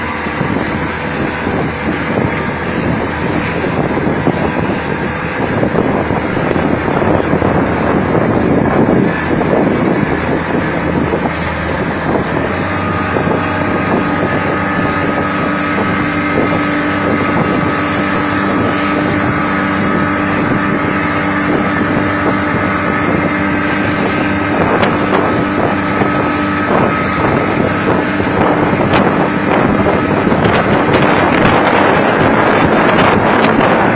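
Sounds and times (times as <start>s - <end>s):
boat engine running: 0.0s - 33.9s
wind buffeting microphone: 0.0s - 33.9s.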